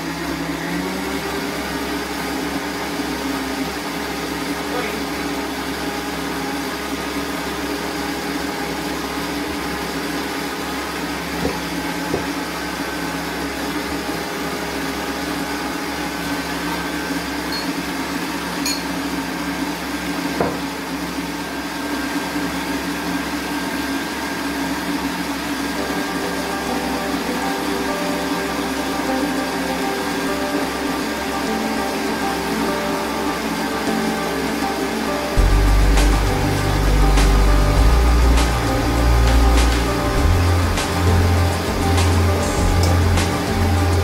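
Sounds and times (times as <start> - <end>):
stand mixer running: 0.0 - 44.0.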